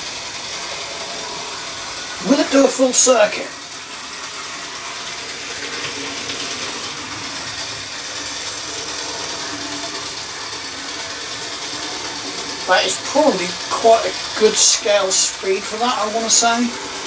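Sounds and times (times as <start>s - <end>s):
model train motor humming: 0.0s - 17.0s
wheels running on rails: 0.0s - 17.0s.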